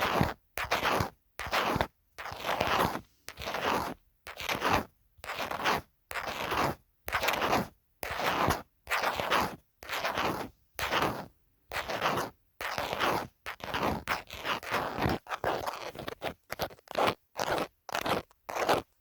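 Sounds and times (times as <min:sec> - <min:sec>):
phone case being scratched: 0:00.0 - 0:19.0.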